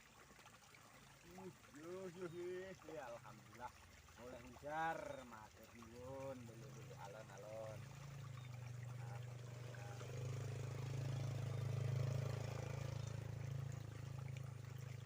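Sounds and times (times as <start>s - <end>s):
low engine hum: 0.1s - 15.0s.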